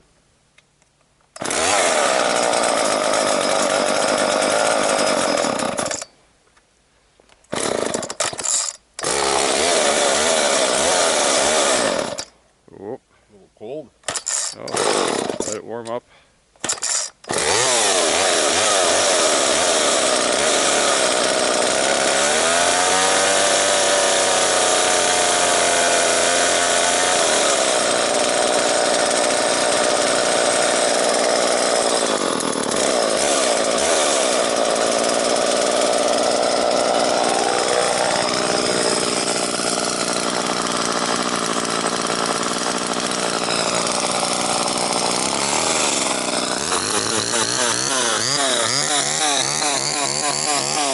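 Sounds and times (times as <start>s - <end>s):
two-stroke chainsaw engine running: 1.4s - 6.0s, 7.6s - 8.2s, 9.0s - 12.3s, 14.3s - 15.6s, 17.3s - 50.9s.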